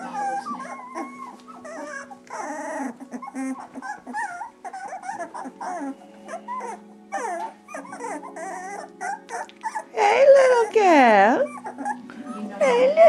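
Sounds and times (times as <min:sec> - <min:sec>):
puppies whining and squeaking: 0:00.0 - 0:13.0.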